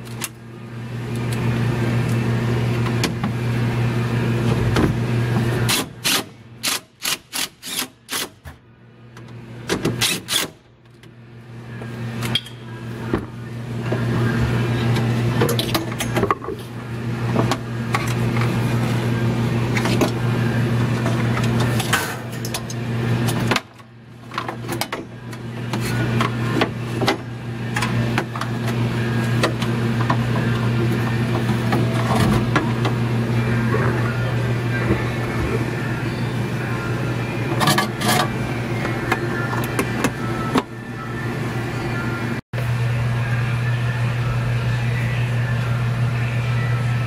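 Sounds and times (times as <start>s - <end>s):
refrigeration unit humming: 0.0s - 47.0s.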